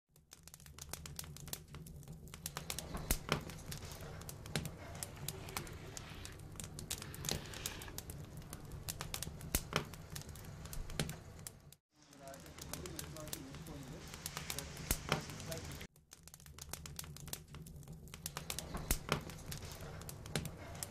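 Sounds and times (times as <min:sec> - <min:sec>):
fire crackling and popping: 0:00.1 - 0:20.9.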